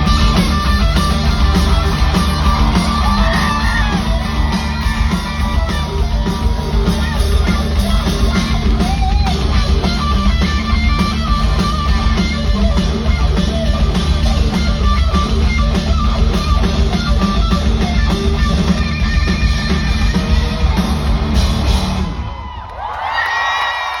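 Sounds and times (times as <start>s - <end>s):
distorted electric guitar: 0.0s - 22.2s
bass guitar: 0.0s - 22.3s
drum kit: 0.0s - 22.5s.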